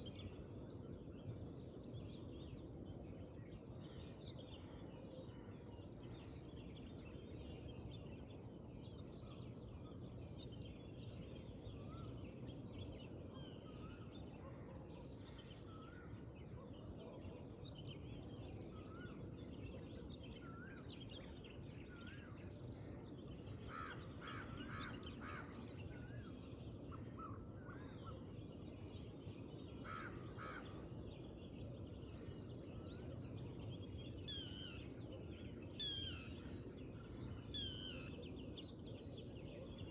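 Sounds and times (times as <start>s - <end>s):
forest birdsong chirps: 0.0s - 39.9s.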